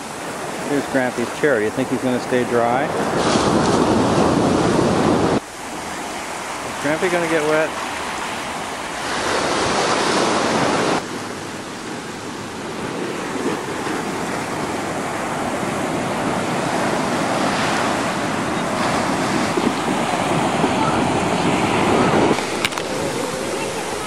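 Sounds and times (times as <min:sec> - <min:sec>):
surf washing up a beach: 0:00.0 - 0:24.0.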